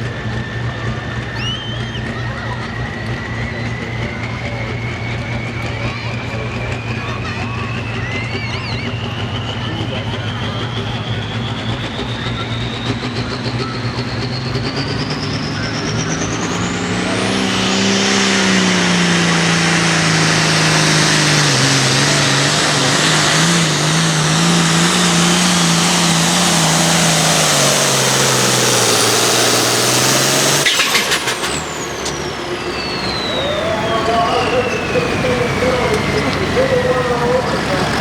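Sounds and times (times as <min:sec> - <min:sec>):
turbo whistle: 0:00.0 - 0:37.9
tractor diesel engine running: 0:00.0 - 0:38.0.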